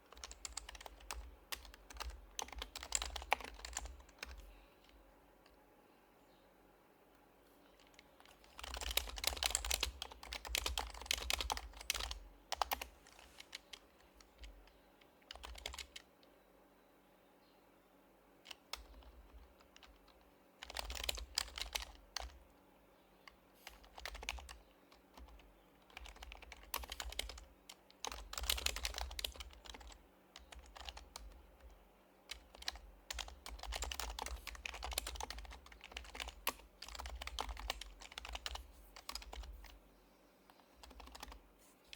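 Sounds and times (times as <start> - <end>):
keyboard typing: 0.1 - 5.6, 7.7 - 16.1, 18.5 - 22.4, 23.2 - 39.8, 40.5 - 41.4.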